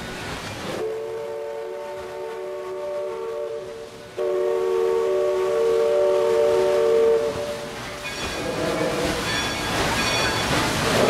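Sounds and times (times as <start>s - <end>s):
chime steam whistle: 0.8s - 11.0s.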